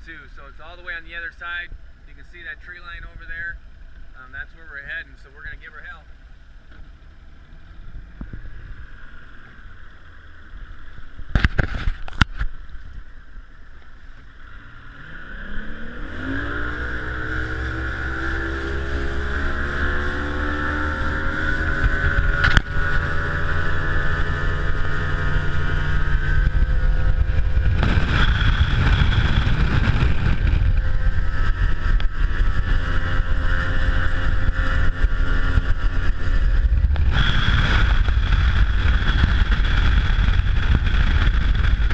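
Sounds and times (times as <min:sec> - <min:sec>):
wind and water rushing: 0:00.0 - 0:41.9
outboard motor accelerating: 0:01.2 - 0:41.9.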